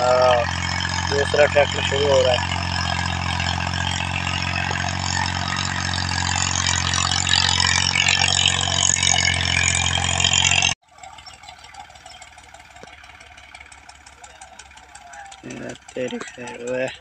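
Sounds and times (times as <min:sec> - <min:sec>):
diesel tractor engine running: 0:00.0 - 0:17.0
faint engine hum: 0:00.0 - 0:17.0.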